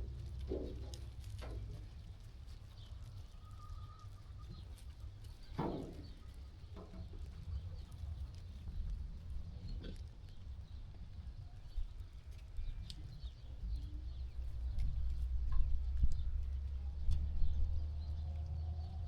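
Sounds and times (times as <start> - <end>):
hooves clicking and shuffling: 0.0 - 19.0.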